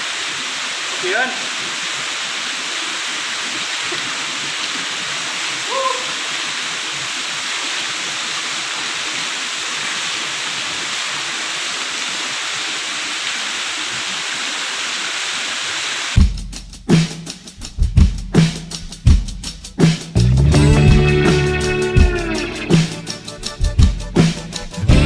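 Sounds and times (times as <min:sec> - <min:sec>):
waterfall rushing: 0:00.0 - 0:16.2, 0:20.5 - 0:25.0.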